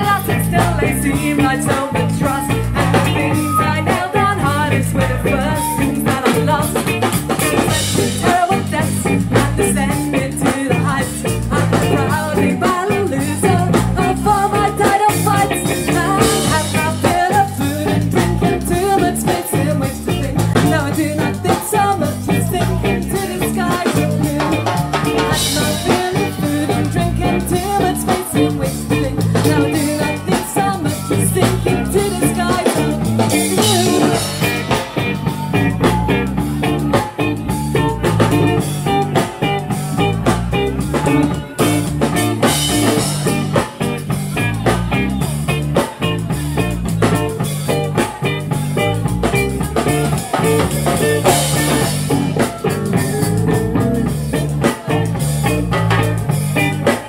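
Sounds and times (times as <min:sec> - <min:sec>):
bass line: 0:00.0 - 0:57.0
drum kit beat: 0:00.0 - 0:57.0
live ska-punk band playing: 0:00.0 - 0:57.0.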